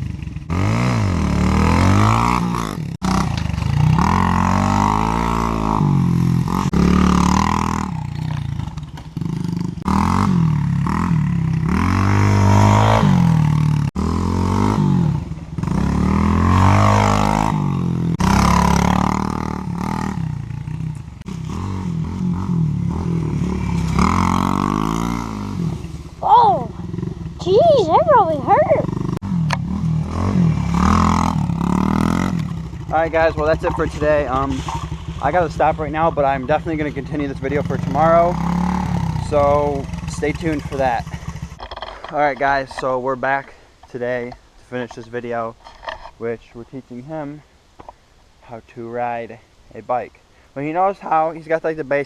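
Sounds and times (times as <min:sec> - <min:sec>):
pit bike engine revving: 0:00.0 - 0:42.6.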